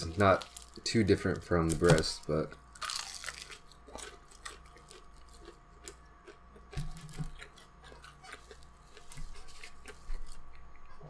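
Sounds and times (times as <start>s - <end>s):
chewing crunchy fried chicken: 0.0s - 11.0s.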